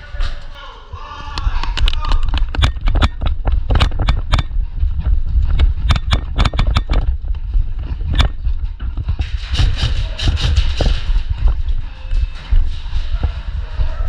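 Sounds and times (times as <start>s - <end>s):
sharp clicks and knocks: 1.4s - 13.2s
low thumping rumble: 1.4s - 14.0s.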